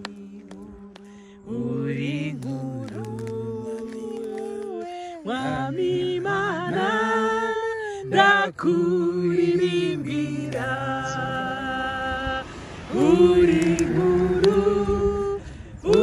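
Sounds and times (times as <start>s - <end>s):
women singing unaccompanied: 0.0s - 16.0s.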